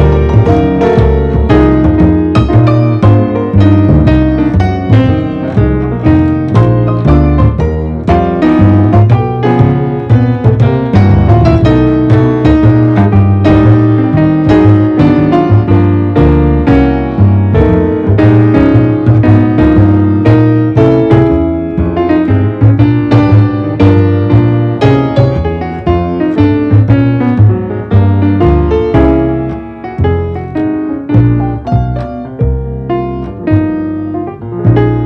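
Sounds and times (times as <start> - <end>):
low bass line: 0.0 - 35.0
piano music: 0.0 - 35.0.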